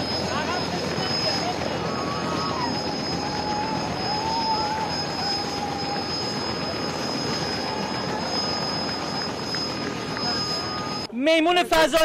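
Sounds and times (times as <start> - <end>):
helicopter turbine whine and rotor: 0.0 - 11.1
wavering squeal: 0.0 - 11.1.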